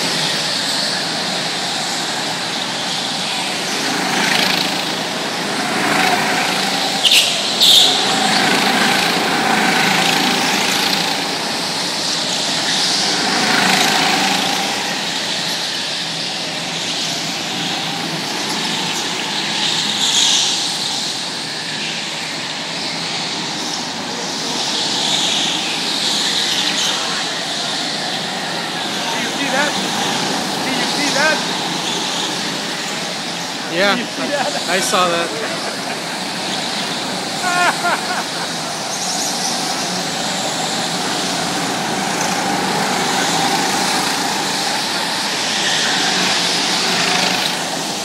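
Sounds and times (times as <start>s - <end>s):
go-kart engines buzzing: 0.0s - 48.0s.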